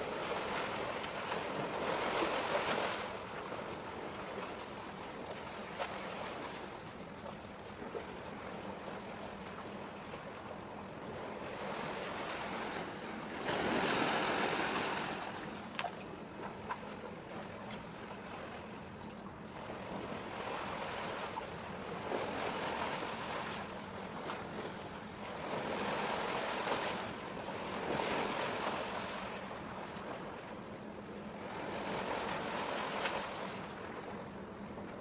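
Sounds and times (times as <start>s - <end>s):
small waves washing ashore: 0.0s - 35.0s.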